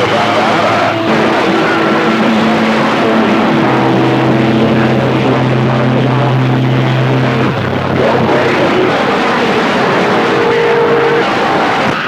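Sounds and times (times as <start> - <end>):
radio carriers droning hums and tones: 0.0 - 12.0
strong low radio hum: 0.0 - 12.0.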